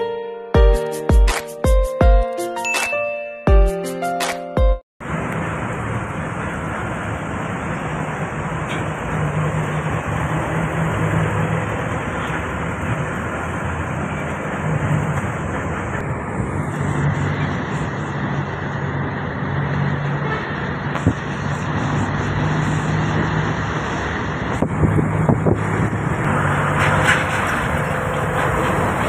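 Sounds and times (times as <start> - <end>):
bus engine drone: 5.0 - 29.0
road noise: 5.0 - 29.0.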